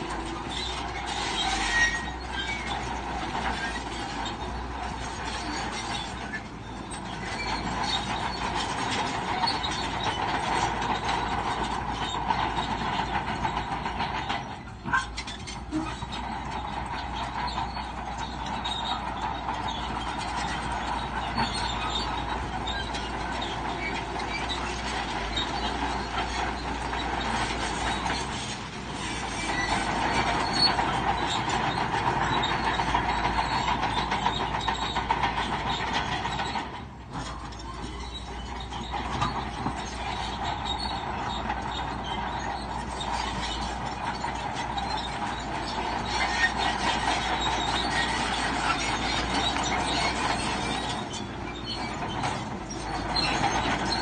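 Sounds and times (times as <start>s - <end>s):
bulldozer engine: 0.0s - 54.0s
bulldozer tracks clanking and squealing: 0.0s - 54.0s.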